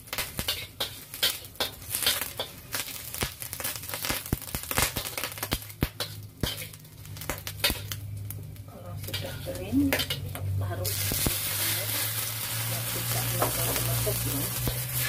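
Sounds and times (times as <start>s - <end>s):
food sizzling in oil: 0.0s - 15.0s
metal spatula scraping a wok: 0.1s - 3.8s, 4.8s - 8.2s, 8.8s - 15.0s.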